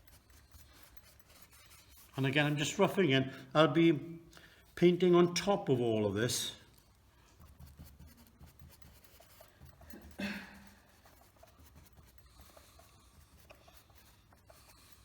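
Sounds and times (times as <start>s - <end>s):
paintbrush scratching: 0.0s - 15.0s.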